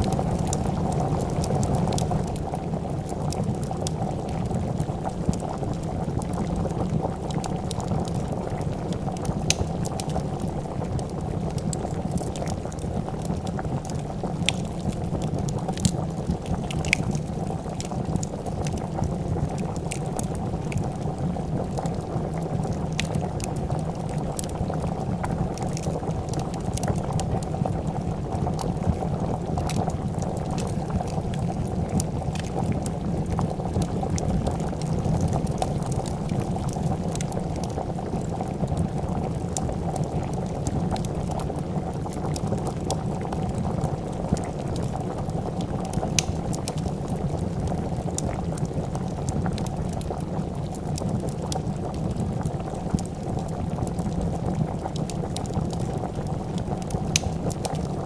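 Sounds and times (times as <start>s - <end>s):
soup boiling and bubbling: 0.0s - 58.0s
wood fire crackling: 0.0s - 58.0s.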